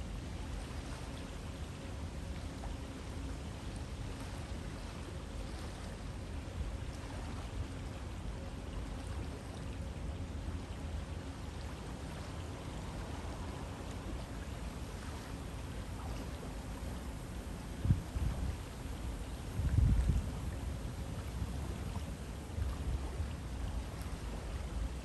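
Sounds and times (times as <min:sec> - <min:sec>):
river water flowing: 0:00.0 - 0:25.0.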